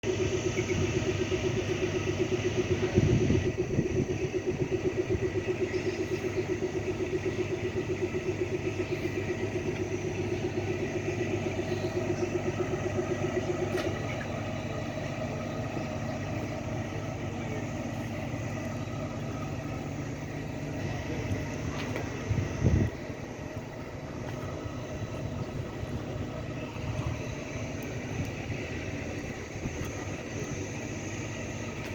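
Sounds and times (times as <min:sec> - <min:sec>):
train running: 0:00.0 - 0:31.9.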